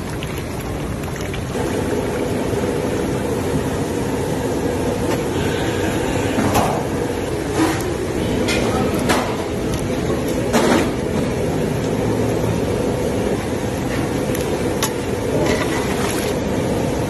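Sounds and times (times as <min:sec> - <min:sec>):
pot boiling hard: 0:00.0 - 0:17.0.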